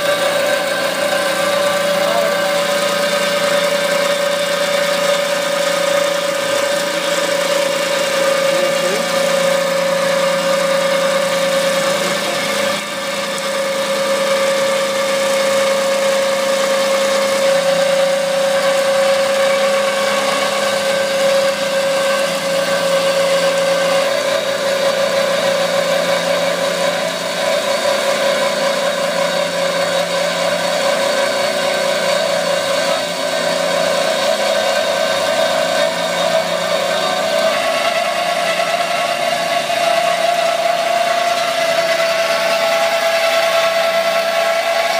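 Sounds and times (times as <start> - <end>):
band saw cutting pipe: 0.0 - 44.9.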